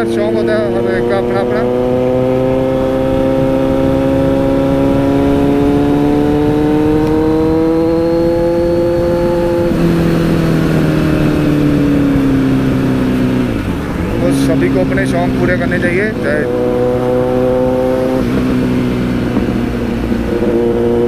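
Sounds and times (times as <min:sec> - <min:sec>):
motorcycle engine running under load: 0:00.0 - 0:21.0.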